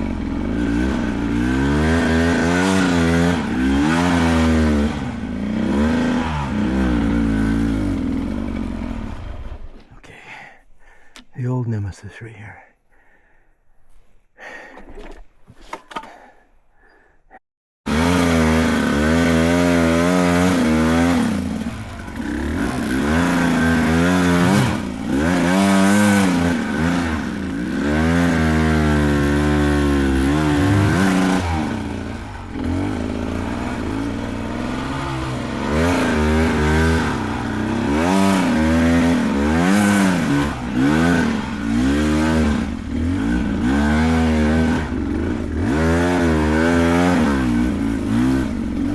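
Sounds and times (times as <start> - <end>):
dirt bike engine revving: 0.0 - 9.8, 17.9 - 48.9.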